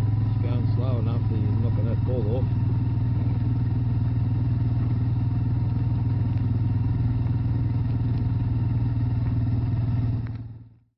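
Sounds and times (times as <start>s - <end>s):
quad bike engine running: 0.0s - 10.9s.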